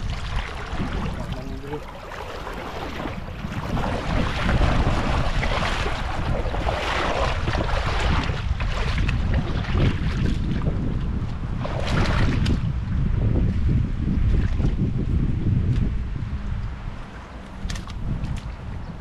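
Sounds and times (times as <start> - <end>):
shallow river water: 0.0 - 19.0
wind buffeting microphone: 0.0 - 19.0.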